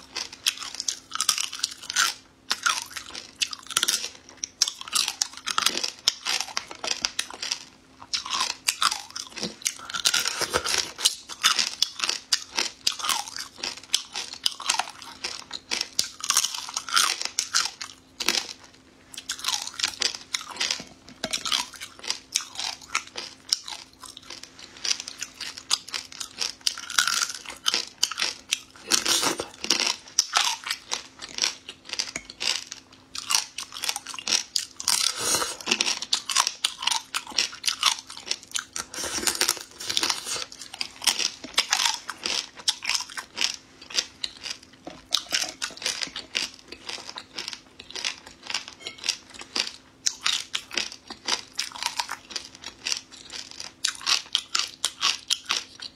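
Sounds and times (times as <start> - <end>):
person chewing crunchy crab shell: 0.0 - 55.9.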